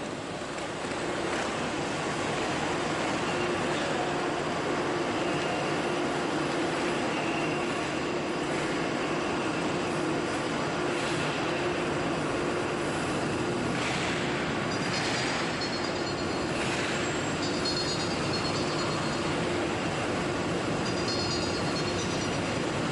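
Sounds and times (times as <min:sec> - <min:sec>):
constant hum tone: 0:00.0 - 0:22.9.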